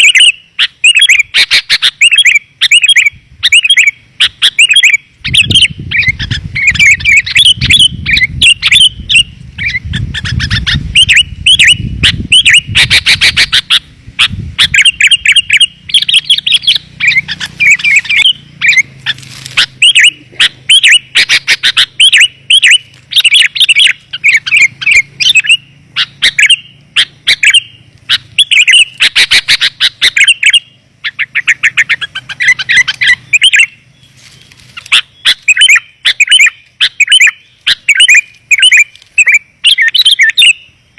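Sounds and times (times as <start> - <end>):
bird chirping call: 0.0 - 40.9.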